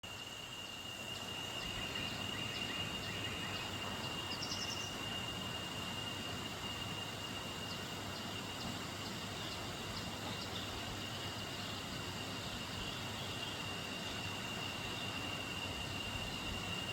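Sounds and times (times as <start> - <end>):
insect trill: 0.0 - 16.9.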